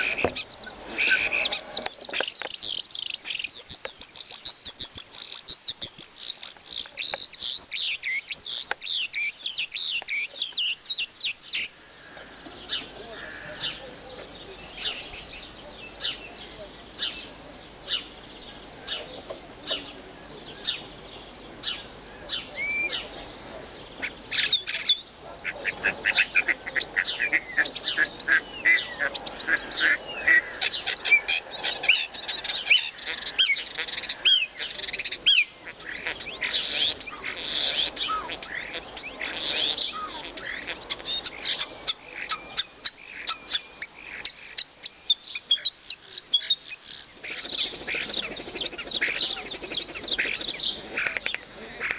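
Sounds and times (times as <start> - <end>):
songbirds chirping and whistling: 0.0 - 51.9.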